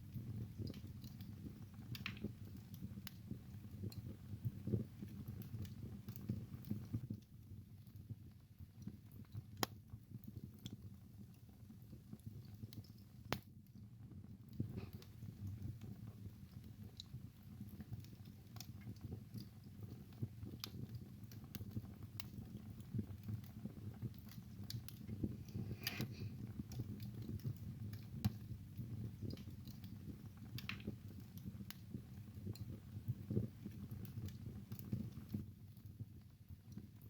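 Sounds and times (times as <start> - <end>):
fire crackling and popping: 0.0 - 37.0
low rumble of flames: 0.0 - 37.0.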